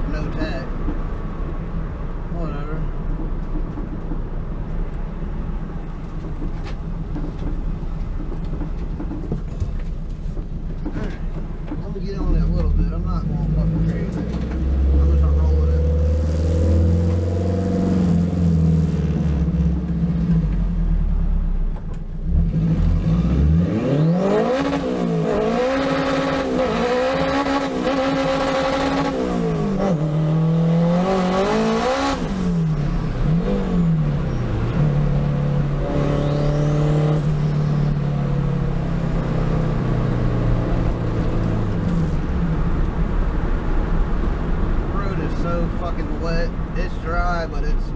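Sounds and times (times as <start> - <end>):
car engine accelerating: 2.6 - 47.9.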